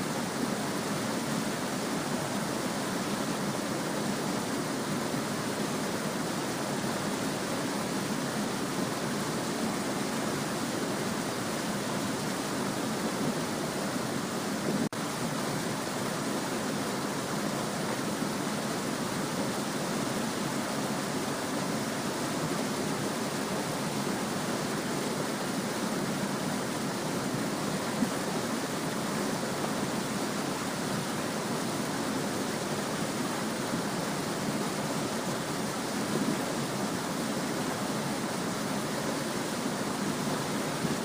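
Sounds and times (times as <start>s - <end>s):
small stream babbling: 0.0s - 41.0s.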